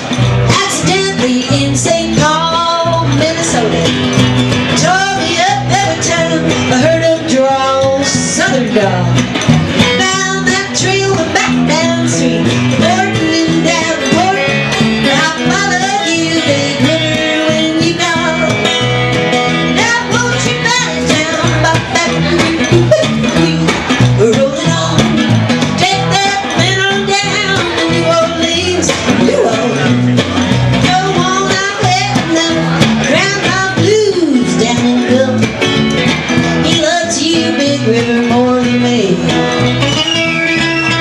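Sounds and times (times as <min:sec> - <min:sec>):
woman singing: 0:00.0 - 0:04.1, 0:04.7 - 0:30.0, 0:30.8 - 0:35.8, 0:36.5 - 0:41.0
electric bass line: 0:00.0 - 0:41.0
strummed acoustic guitar: 0:00.0 - 0:41.0.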